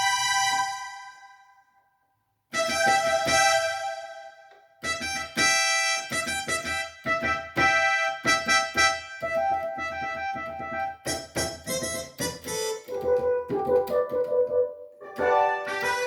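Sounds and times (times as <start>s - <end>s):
electronic keyboard notes: 2.6s - 16.0s.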